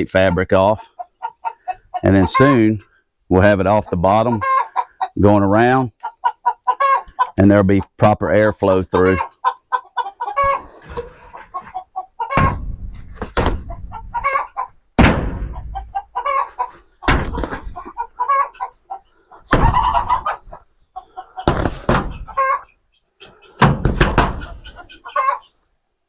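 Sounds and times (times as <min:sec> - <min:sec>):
hens clucking: 0:00.0 - 0:25.7.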